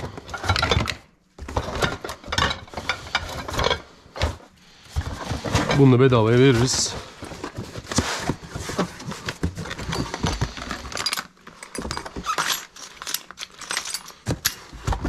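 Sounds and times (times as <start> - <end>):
rustling through boxes: 0.0 - 15.0.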